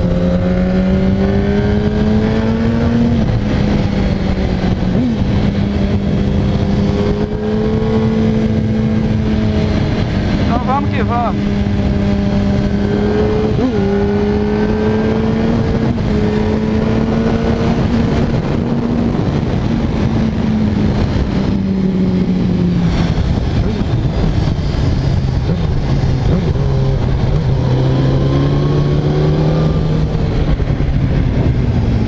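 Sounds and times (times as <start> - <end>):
motorcycle engine running: 0.0 - 32.0
wind noise on microphone: 0.0 - 32.0.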